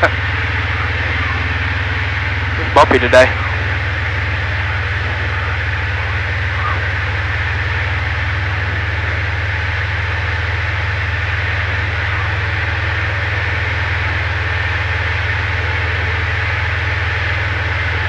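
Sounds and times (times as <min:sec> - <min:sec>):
aircraft engine and propeller droning: 0:00.0 - 0:18.0.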